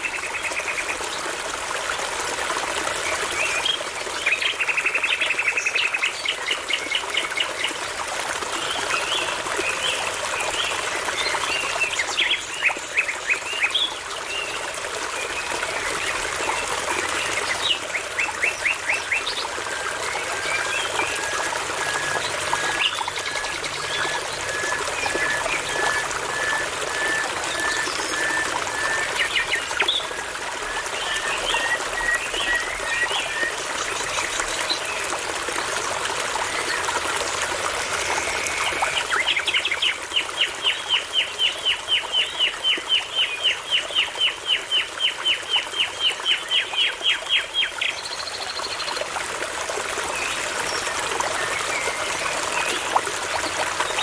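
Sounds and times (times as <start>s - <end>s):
babbling brook: 0.0s - 54.0s.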